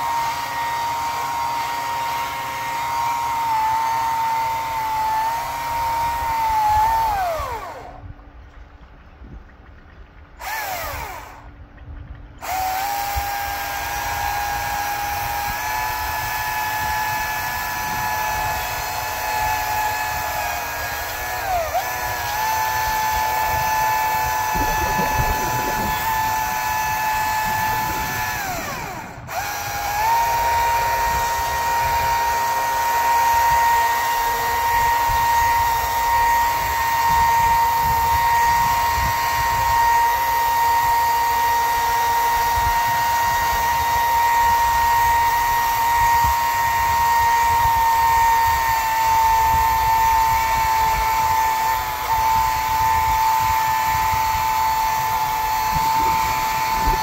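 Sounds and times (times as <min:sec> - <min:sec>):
power tool motor whining: 0:00.0 - 0:08.1, 0:10.4 - 0:57.0.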